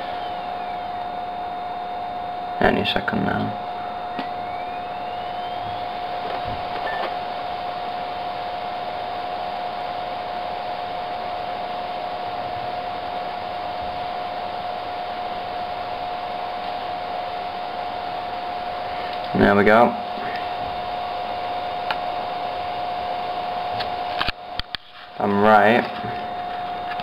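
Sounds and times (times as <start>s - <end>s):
faint rising whine: 0.0s - 27.0s
laptop fan whirring: 0.0s - 27.0s.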